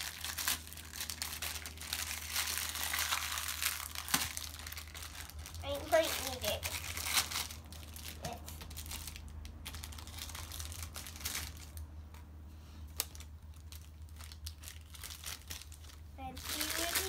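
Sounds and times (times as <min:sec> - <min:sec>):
plastic wrapper crackling: 0:00.0 - 0:11.9, 0:12.9 - 0:17.0.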